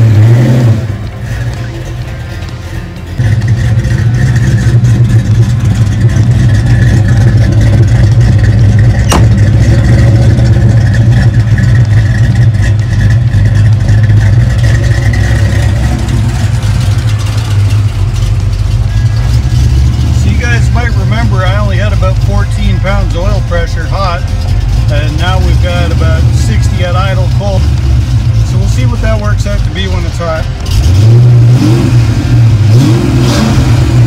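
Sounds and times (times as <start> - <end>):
car engine running loudly: 0.0 - 34.0.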